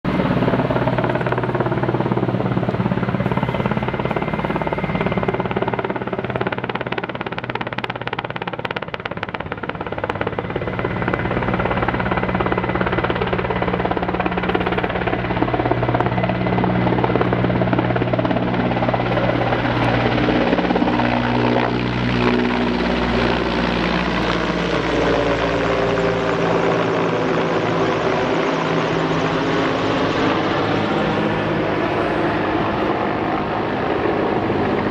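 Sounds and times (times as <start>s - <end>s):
helicopter flying overhead: 0.0s - 34.9s.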